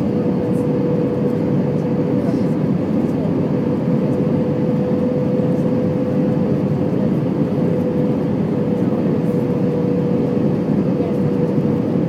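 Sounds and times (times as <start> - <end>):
engine and airflow roar: 0.0 - 12.0.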